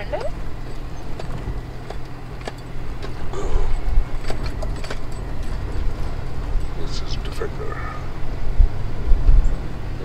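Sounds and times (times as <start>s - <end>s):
engine and tyre rumble: 0.0s - 10.0s
knocks and rattles from bumps: 0.2s - 10.0s.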